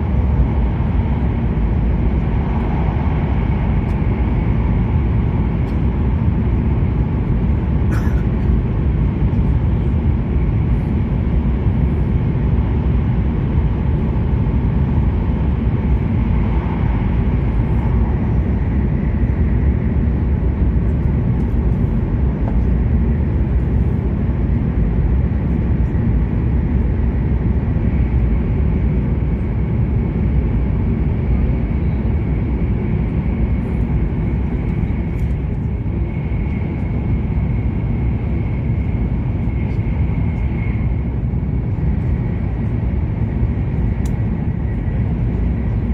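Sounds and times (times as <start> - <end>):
train running low rumble: 0.0 - 45.9.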